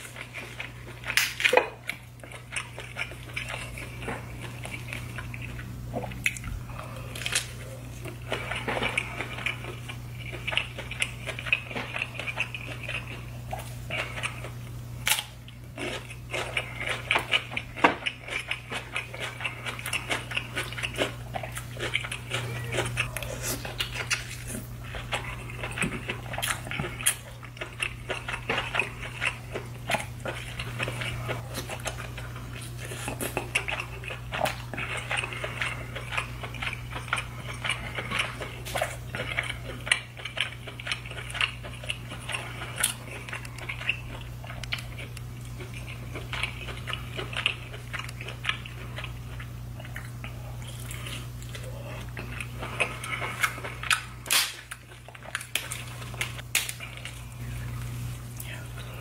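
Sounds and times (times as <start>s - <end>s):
steady low hum: 0.0s - 59.0s
wet chewing and lip-smacking: 0.0s - 59.0s.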